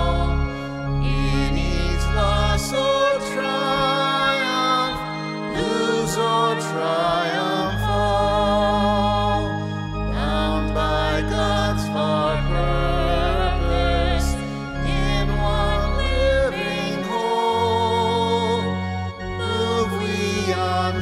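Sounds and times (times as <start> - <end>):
held bass notes and chords: 0.0 - 21.0
person singing with vibrato: 0.0 - 21.0.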